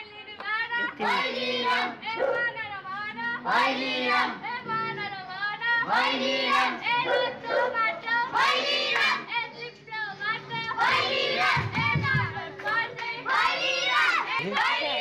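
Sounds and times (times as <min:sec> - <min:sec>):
children singing together: 0:00.8 - 0:02.2, 0:03.4 - 0:09.5, 0:10.3 - 0:15.0.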